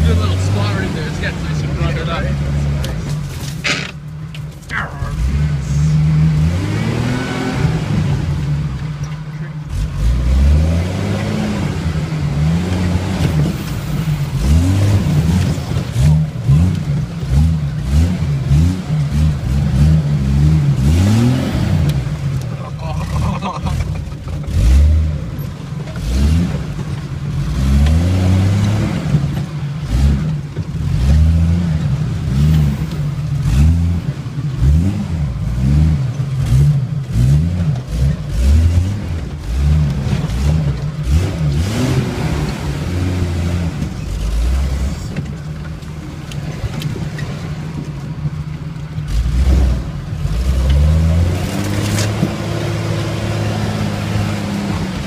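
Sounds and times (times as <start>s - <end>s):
engine revving: 0.0s - 4.0s, 4.7s - 47.9s, 48.8s - 55.0s.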